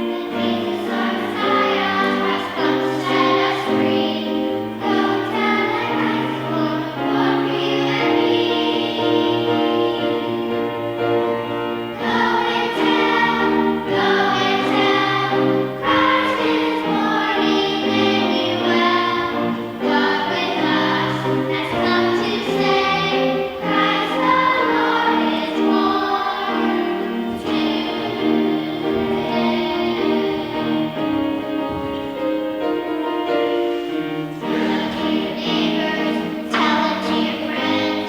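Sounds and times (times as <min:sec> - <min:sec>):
choir singing: 0:00.0 - 0:38.0
instrumental accompaniment: 0:00.0 - 0:38.0.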